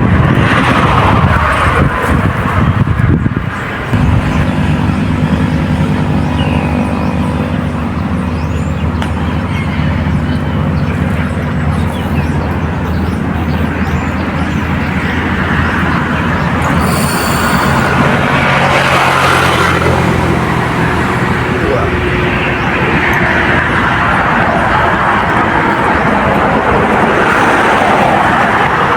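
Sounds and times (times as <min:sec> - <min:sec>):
engine running steadily: 0:03.1 - 0:27.3.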